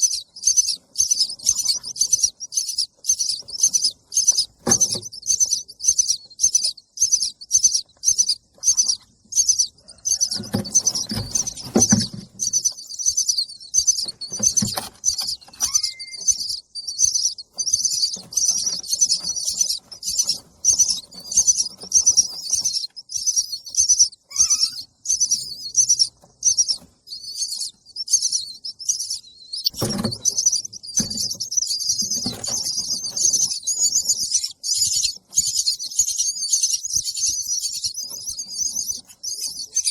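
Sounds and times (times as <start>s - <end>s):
baby bird begging chirps: 0.0s - 39.9s.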